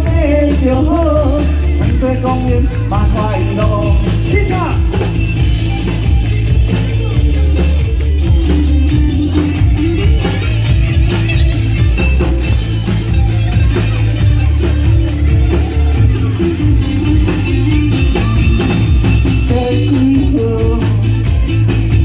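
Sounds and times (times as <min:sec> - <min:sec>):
heavy bass line: 0:00.0 - 0:22.0
live band playing: 0:00.0 - 0:22.0.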